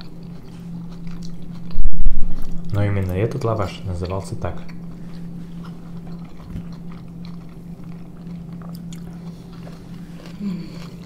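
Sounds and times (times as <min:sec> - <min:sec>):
low hum: 0:00.0 - 0:11.0
people chewing soft food: 0:00.0 - 0:11.0.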